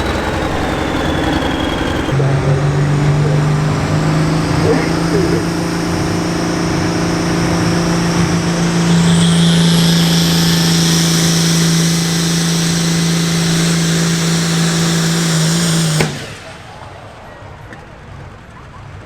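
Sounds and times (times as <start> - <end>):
high whine: 0.0 - 18.8
diesel tractor engine at full throttle: 0.0 - 19.0.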